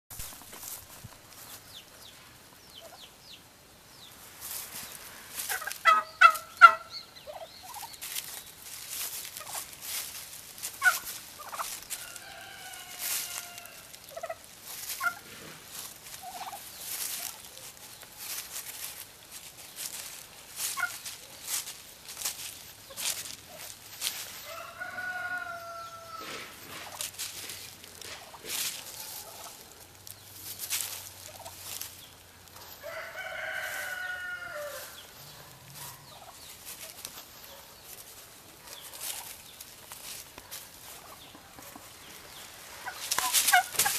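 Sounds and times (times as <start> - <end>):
feet crunching dry leaves: 0.1 - 1.8, 4.1 - 43.9
turkeys gobbling: 5.3 - 19.1, 20.5 - 35.0, 35.7 - 38.2, 38.9 - 43.9.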